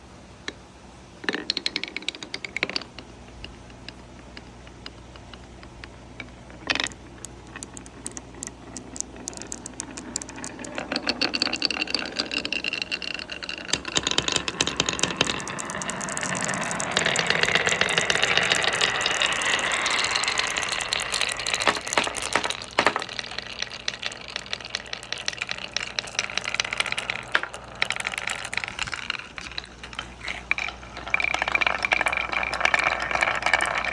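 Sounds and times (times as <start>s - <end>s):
marbles rattling down wooden track: 1.2s - 33.9s.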